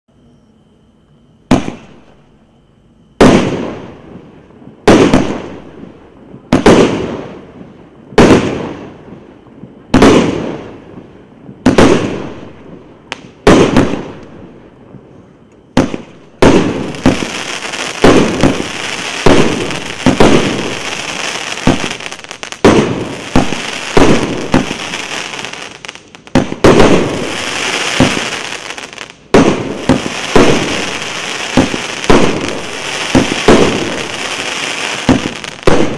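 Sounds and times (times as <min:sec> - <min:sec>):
continuous hiss: 0:00.1 - 0:35.9
fireworks bangs: 0:01.5 - 0:02.2, 0:03.2 - 0:35.9.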